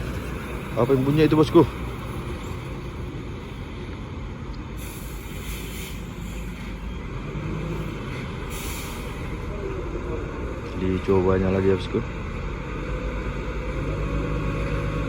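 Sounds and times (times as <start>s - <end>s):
truck diesel engine labouring: 0.0s - 15.0s.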